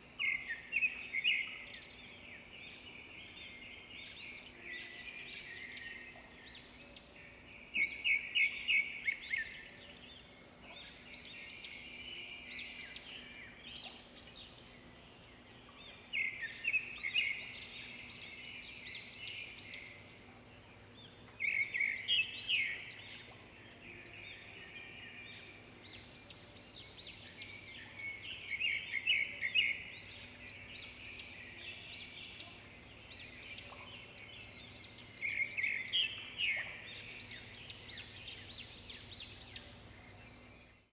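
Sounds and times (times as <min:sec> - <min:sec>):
bird song phrase: 0:00.0 - 0:40.9.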